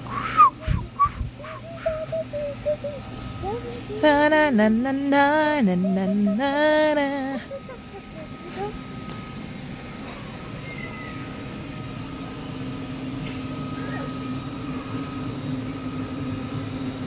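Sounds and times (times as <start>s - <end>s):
faint high whine: 0.0s - 17.0s
low mechanical hum: 0.0s - 17.0s.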